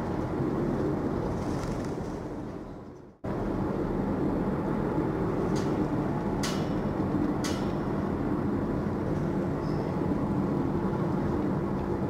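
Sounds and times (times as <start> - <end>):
ship engine rumble: 0.0 - 12.0.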